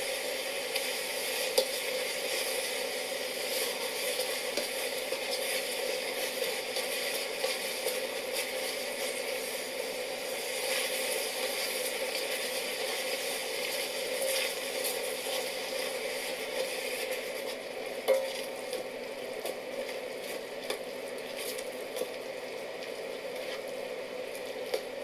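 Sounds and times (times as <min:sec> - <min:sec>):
pot sizzling: 0:00.0 - 0:25.0.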